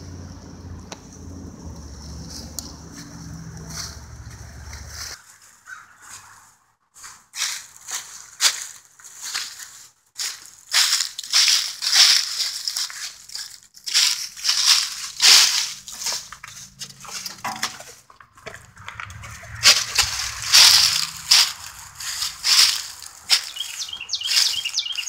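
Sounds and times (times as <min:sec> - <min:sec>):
footsteps crunching dry leaves: 0:01.1 - 0:25.0.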